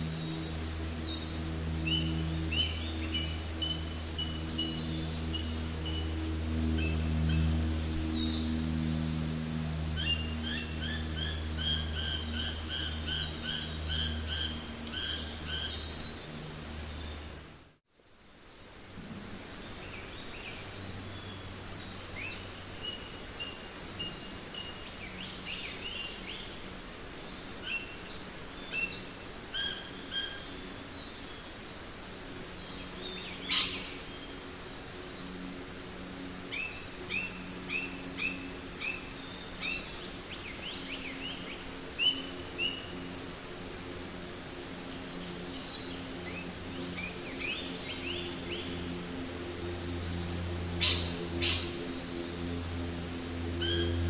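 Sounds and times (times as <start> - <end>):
wild birds chirping: 0.0 - 18.3, 18.9 - 54.0
forest ambience hiss: 0.0 - 54.0
low steady drone: 0.0 - 54.0.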